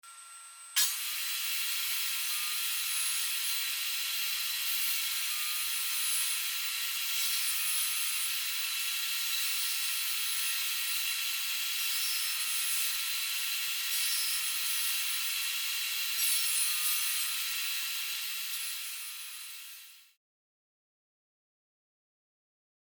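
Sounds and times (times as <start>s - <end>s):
woodworking power tool running: 0.1s - 20.1s.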